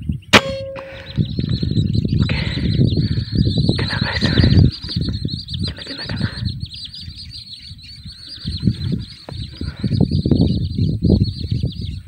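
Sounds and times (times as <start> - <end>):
rapid high-pitched chirping: 0.0 - 12.0
buffeting on microphone: 0.4 - 7.1, 8.0 - 12.0.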